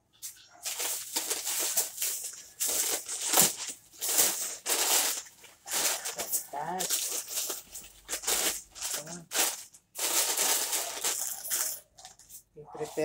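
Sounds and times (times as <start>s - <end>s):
rustling and crinkling of handled items: 0.0s - 13.0s.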